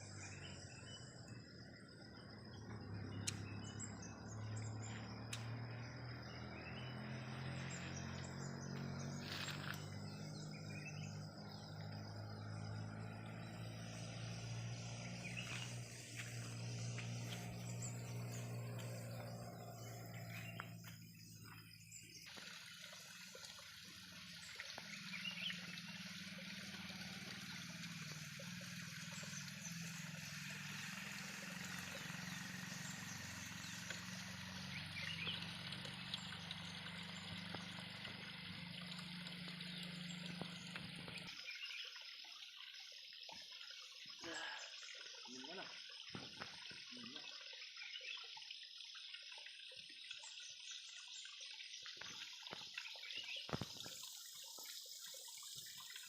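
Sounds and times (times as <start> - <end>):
outdoor ambience: 0.0 - 41.4, 43.2 - 47.4, 51.2 - 56.0
water trickling and running: 0.0 - 56.0.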